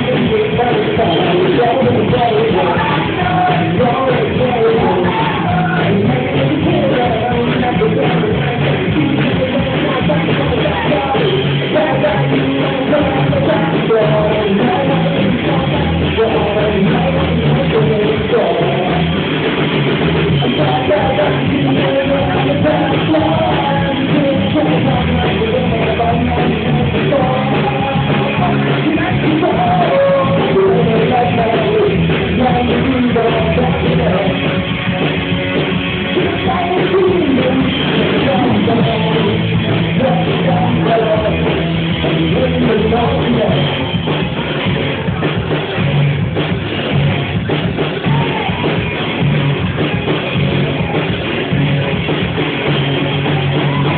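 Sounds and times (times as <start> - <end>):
person singing: 0.0 - 19.5, 20.1 - 53.9
live rock band playing: 0.0 - 53.9.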